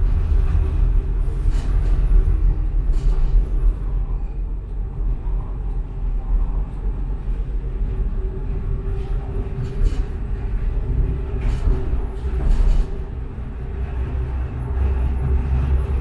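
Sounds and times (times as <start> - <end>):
tram motor hum: 0.0 - 16.0
tram rumbling on track: 0.0 - 16.0
wheel and rail noise: 0.0 - 16.0.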